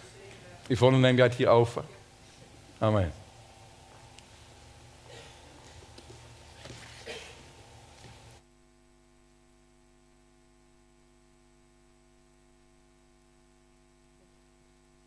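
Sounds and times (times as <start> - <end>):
faint electrical mains hum: 0.0 - 15.0
room noise: 0.0 - 15.0.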